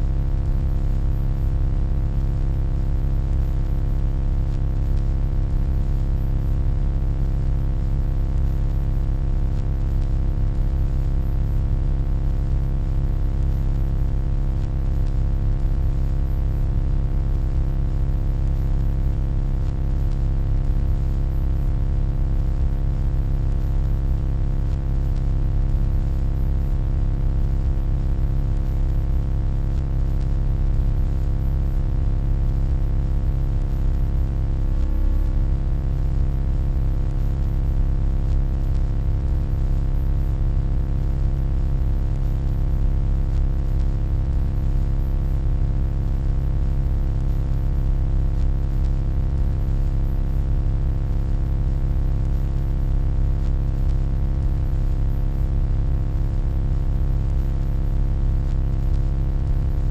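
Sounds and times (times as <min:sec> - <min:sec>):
electronic hum: 0:00.0 - 0:45.6, 0:46.2 - 0:49.0, 0:54.5 - 0:54.7.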